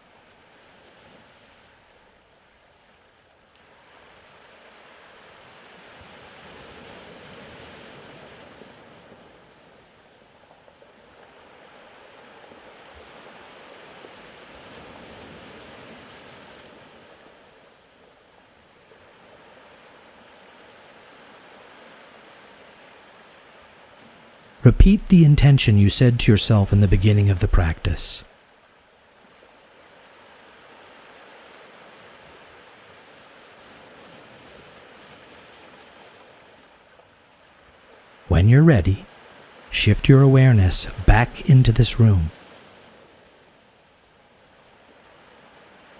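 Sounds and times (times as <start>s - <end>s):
gentle ocean waves: 0.0s - 24.6s, 28.3s - 38.3s, 39.1s - 39.7s, 42.0s - 45.9s.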